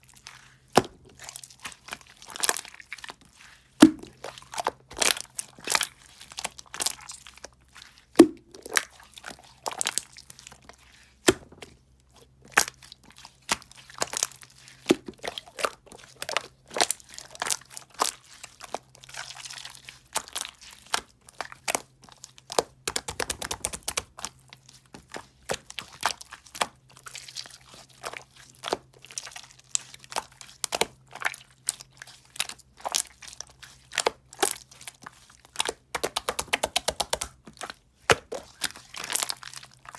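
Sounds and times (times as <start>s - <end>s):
gel crunching and crackling: 0.0s - 39.9s.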